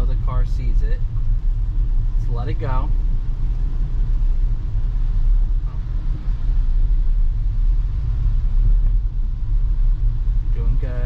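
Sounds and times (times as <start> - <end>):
road and tyre rumble in car cabin: 0.0 - 11.0.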